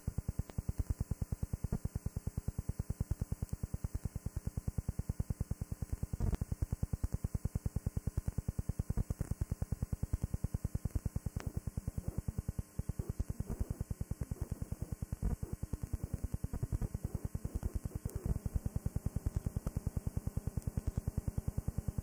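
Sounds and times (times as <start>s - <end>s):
rapid electronic pulsing buzz: 0.0s - 22.0s.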